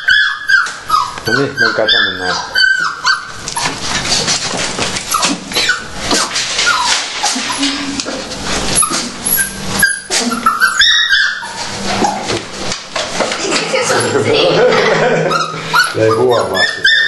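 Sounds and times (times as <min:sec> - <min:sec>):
puppies whimpering and yipping: 0:00.0 - 0:12.6, 0:13.5 - 0:17.0.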